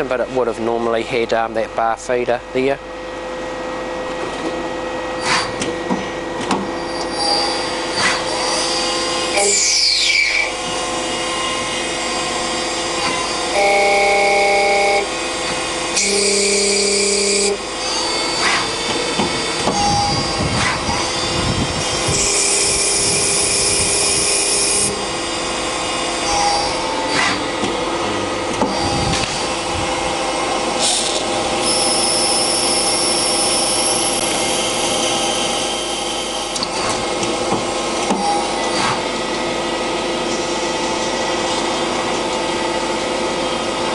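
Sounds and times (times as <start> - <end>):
lathe machine whine: 2.4 - 43.9.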